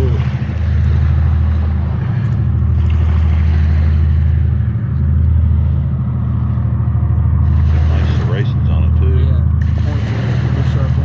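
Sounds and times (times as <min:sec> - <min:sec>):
loud low rumble: 0:00.0 - 0:11.0.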